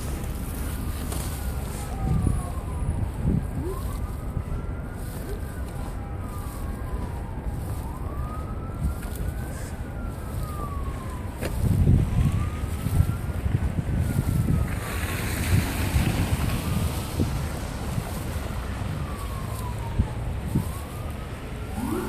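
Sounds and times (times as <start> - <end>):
emergency siren wailing: 0.0 - 22.0
low wind rumble: 0.0 - 22.0.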